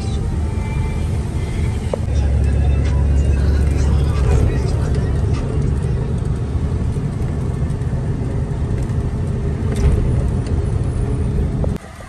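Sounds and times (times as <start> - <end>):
truck diesel engine rumble: 0.0 - 12.0
tyre noise on wet road: 1.4 - 12.0.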